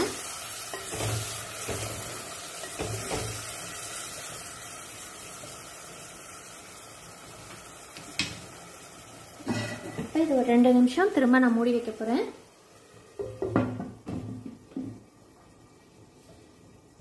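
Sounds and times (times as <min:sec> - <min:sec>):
sauce sizzling in a pot: 0:00.0 - 0:17.0.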